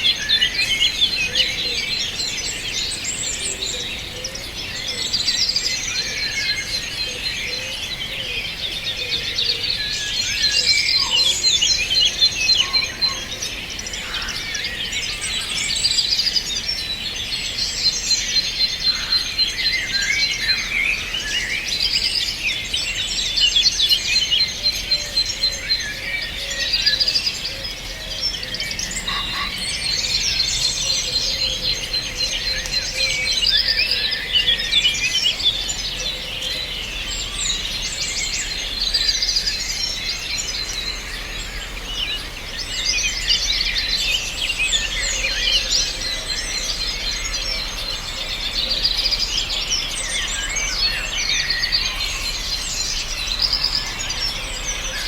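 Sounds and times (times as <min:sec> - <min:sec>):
many songbirds singing: 0:00.0 - 0:55.0.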